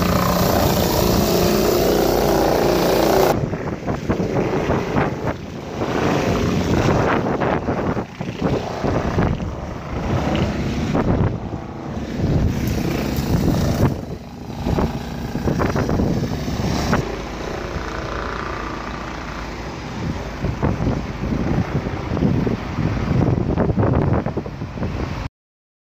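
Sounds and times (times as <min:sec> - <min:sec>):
wind buffeting microphone: 0:00.0 - 0:25.3.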